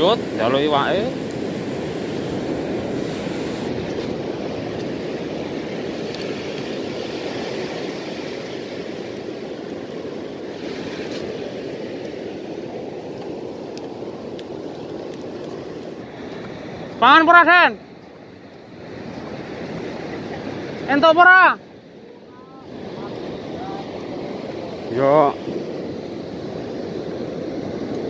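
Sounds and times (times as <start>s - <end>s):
surf washing over sand: 0.0s - 28.0s.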